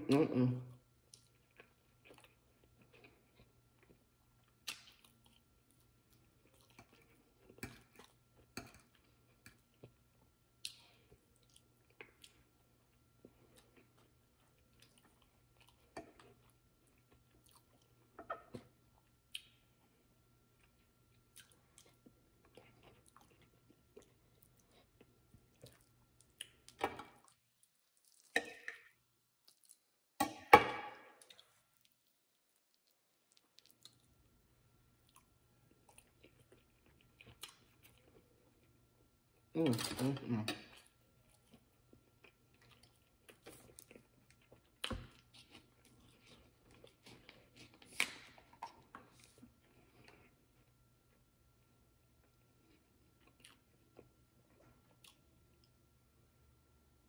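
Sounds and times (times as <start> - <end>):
chewing and mouth sounds: 1.0 - 29.9, 31.2 - 34.4, 35.0 - 51.2, 52.0 - 55.8.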